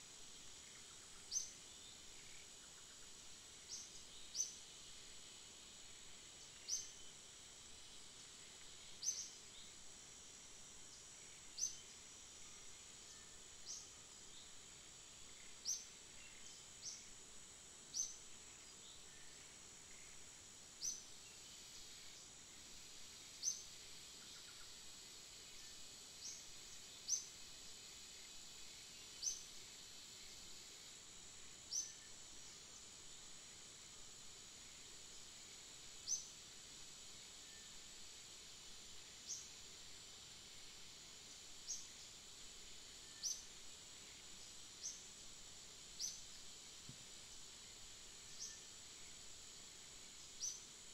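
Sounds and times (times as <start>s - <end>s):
high insect buzz: 0.0s - 50.9s.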